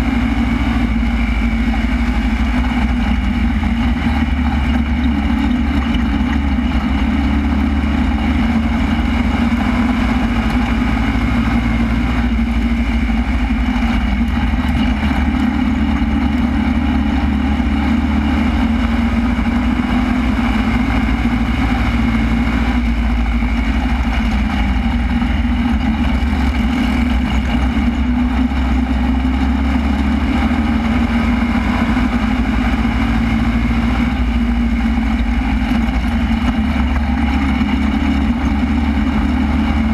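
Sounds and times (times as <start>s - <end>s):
race car engine running at low revs: 0.0s - 39.9s.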